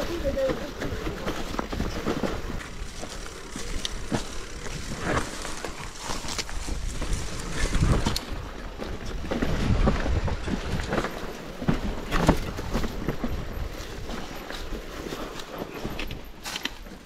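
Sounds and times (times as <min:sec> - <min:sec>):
wind buffeting microphone: 0:00.0 - 0:16.4
bike knocking and rattling: 0:00.0 - 0:17.0.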